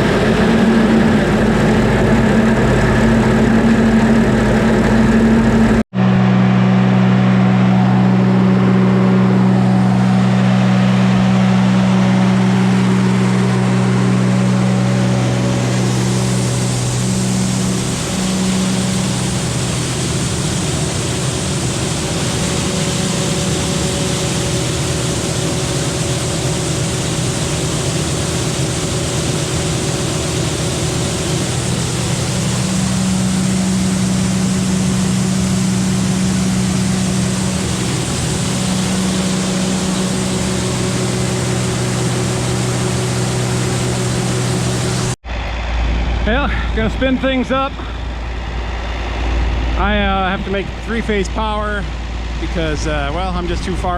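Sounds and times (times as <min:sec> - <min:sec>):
farm machine engine running: 0:00.0 - 0:53.9
loud rushing noise: 0:00.0 - 0:53.9.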